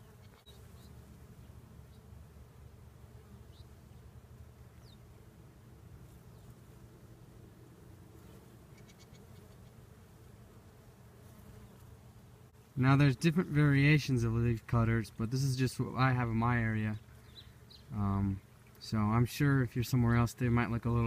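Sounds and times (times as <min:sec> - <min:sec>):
bees buzzing: 0:00.0 - 0:19.6.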